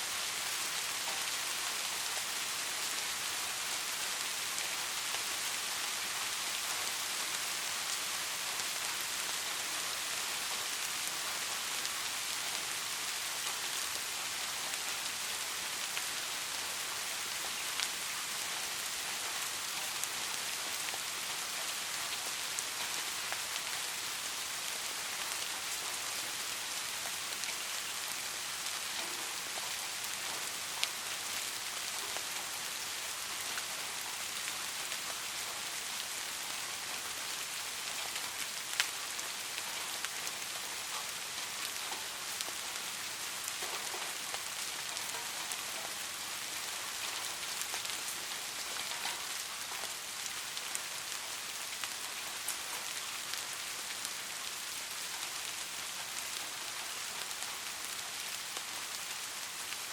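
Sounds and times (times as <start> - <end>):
soft steady rain: 0.0 - 59.9.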